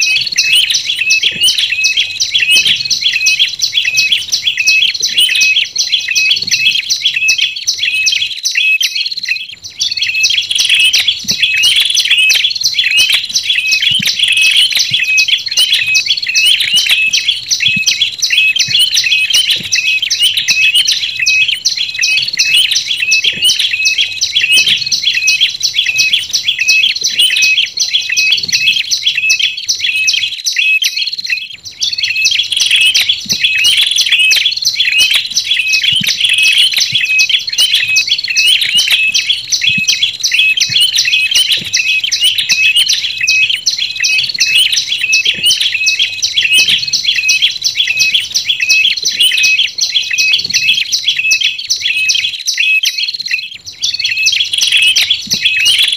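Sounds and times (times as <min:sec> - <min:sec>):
birds chirping sharply: 0:00.0 - 0:55.9.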